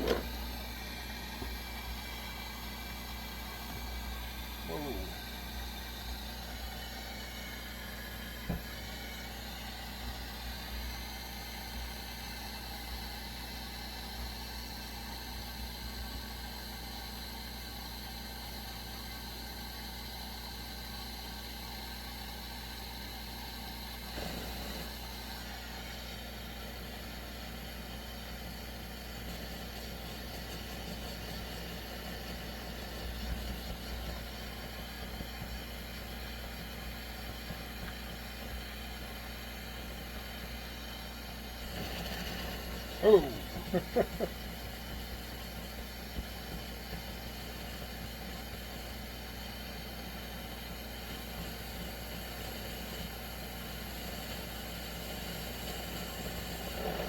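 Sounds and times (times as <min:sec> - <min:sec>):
gas burner hissing: 0:00.0 - 0:57.0.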